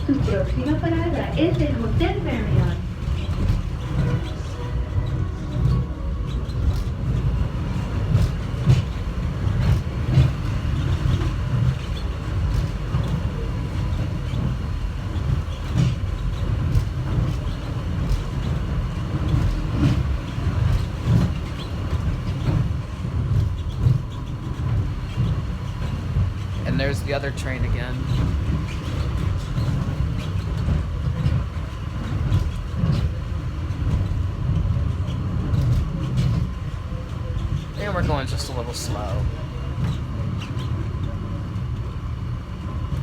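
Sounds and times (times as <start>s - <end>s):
train low rumble: 0.0s - 43.0s.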